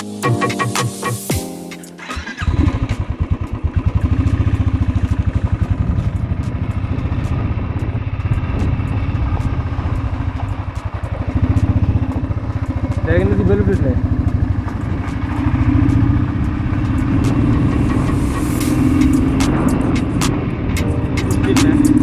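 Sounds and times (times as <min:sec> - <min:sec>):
motorcycle engine starting and idling: 0:02.0 - 0:22.0.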